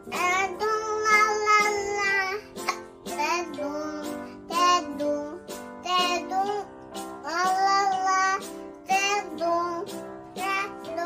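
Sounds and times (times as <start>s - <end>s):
girl singing: 0.0s - 11.0s
instrumental accompaniment: 0.0s - 11.0s.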